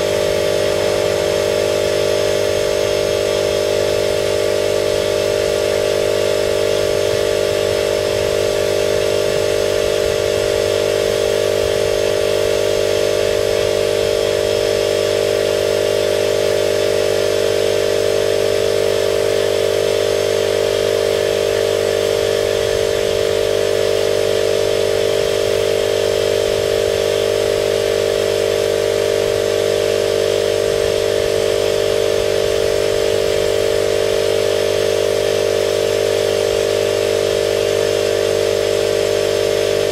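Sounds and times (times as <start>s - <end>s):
spray-painting motor droning: 0.0s - 39.9s.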